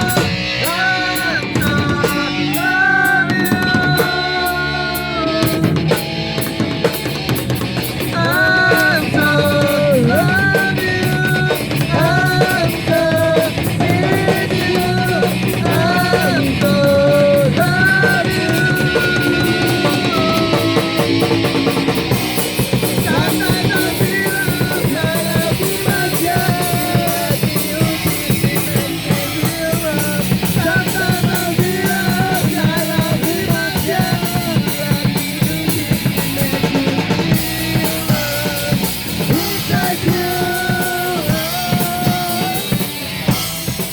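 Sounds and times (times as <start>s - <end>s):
bending guitar lead line: 0.0s - 43.9s
rock band playing: 0.0s - 43.9s.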